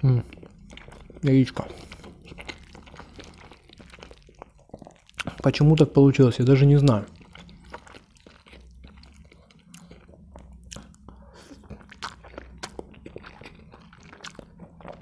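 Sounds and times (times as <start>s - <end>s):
chewing noodles with mouth clicks: 0.2s - 5.8s, 6.8s - 15.0s.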